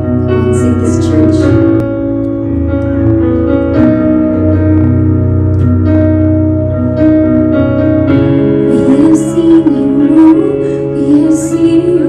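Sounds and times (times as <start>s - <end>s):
bass line: 0.0s - 10.5s
sustained keyboard chords: 0.0s - 12.0s.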